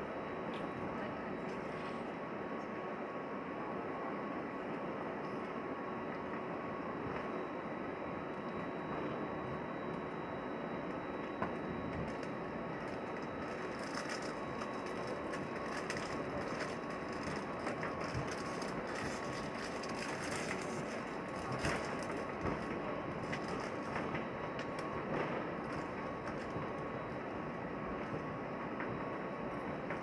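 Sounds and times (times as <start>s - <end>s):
airliner cabin noise: 0.0s - 30.0s.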